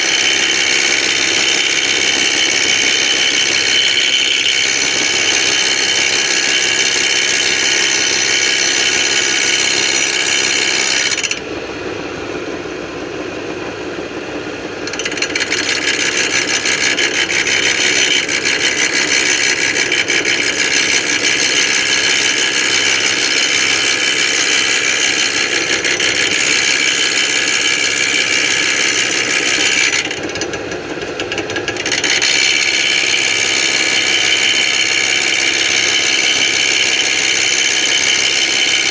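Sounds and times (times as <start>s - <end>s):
lathe whirring with hiss: 0.0s - 38.9s.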